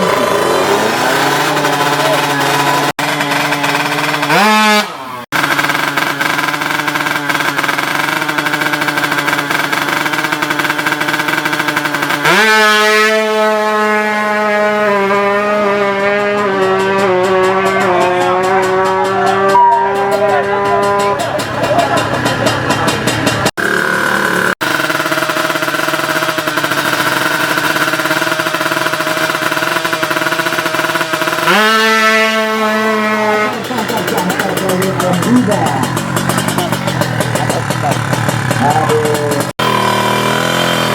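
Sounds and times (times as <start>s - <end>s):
two-stroke engine revving: 0.0s - 40.9s.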